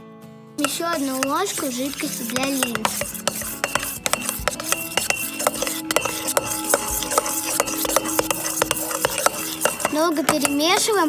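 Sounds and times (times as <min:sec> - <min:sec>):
metal spoon scraping bowl: 0:00.6 - 0:11.0
spoon clinking against bowl: 0:00.6 - 0:11.0.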